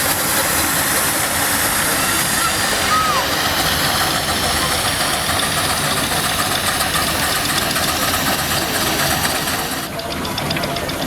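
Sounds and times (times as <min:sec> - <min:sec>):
steam engine hissing and beating: 0:00.0 - 0:11.0.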